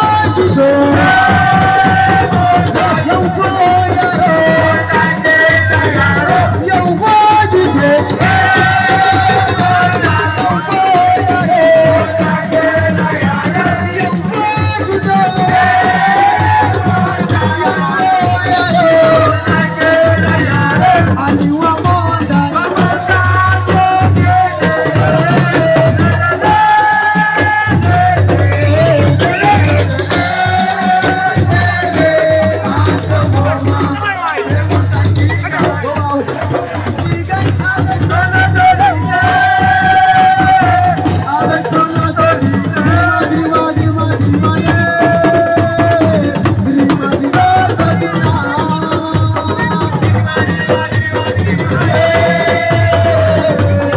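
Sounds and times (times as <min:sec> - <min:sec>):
drumming and percussion: 0:00.0 - 0:53.9.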